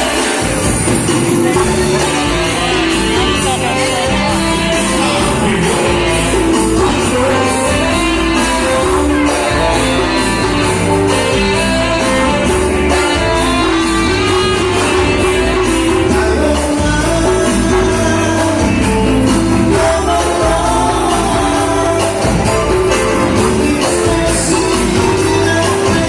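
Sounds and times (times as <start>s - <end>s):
dance band playing: 0.0s - 26.0s
person singing: 0.0s - 26.0s.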